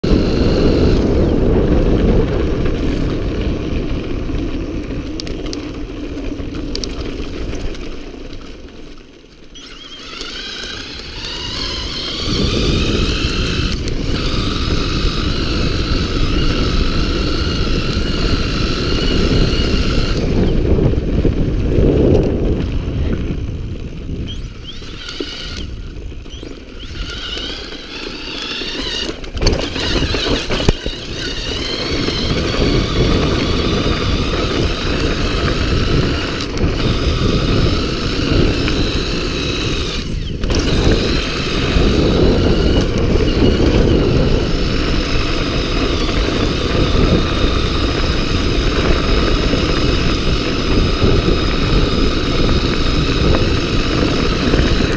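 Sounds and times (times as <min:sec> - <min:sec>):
electric motor whine: 0:00.0 - 0:54.9
tyres rumbling over dirt track: 0:00.0 - 0:54.9
wind buffeting microphone: 0:00.0 - 0:54.9.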